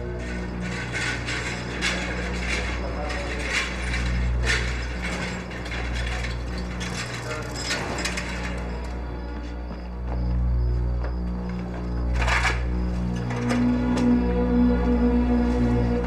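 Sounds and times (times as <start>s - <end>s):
low music drone: 0.0s - 16.0s.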